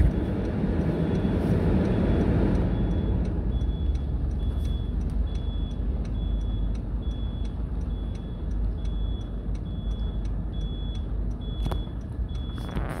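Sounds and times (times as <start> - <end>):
turn signal ticking: 0.0 - 13.0.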